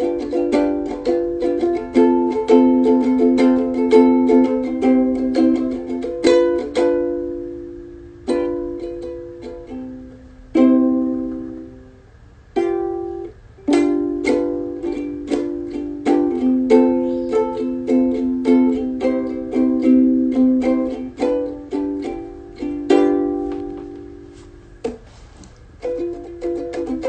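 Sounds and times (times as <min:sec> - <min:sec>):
ukulele strummed chords: 0:00.0 - 0:27.0.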